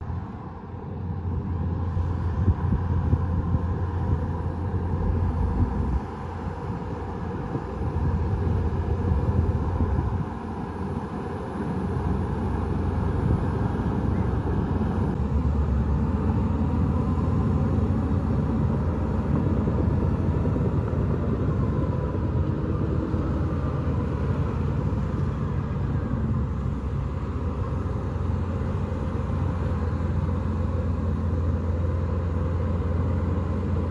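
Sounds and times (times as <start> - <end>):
bulldozer diesel engine rumbling: 0.0 - 33.9.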